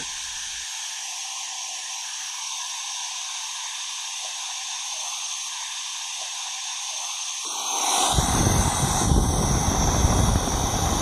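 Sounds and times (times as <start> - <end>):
compressed air hissing: 1.7 - 11.0.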